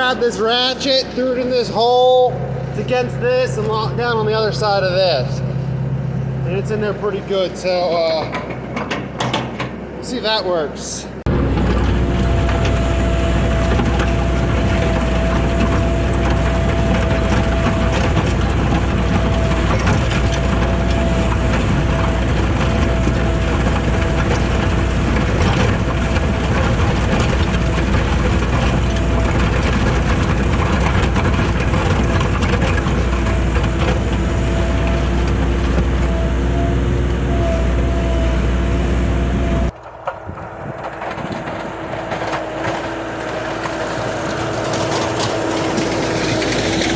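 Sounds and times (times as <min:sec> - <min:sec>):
skid steer engine running: 0:00.0 - 0:46.9.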